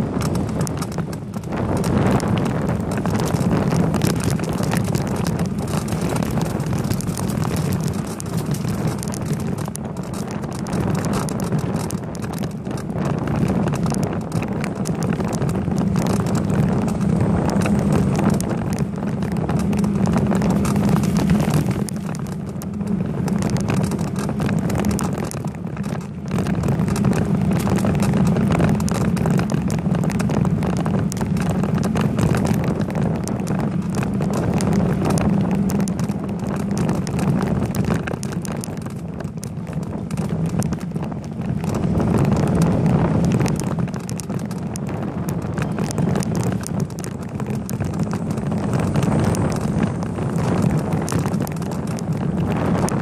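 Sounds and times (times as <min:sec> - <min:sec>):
bicycle tyre noise: 0:00.0 - 0:53.0
wind rushing: 0:00.0 - 0:53.0.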